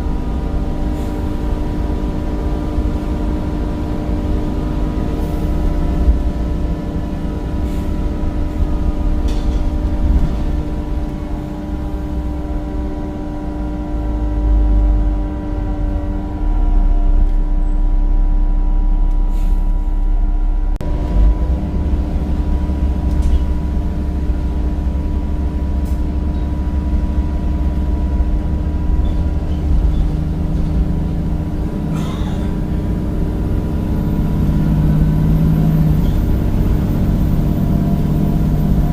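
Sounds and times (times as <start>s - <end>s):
bus engine rumble: 0.0s - 38.9s
constant whine: 0.0s - 38.9s.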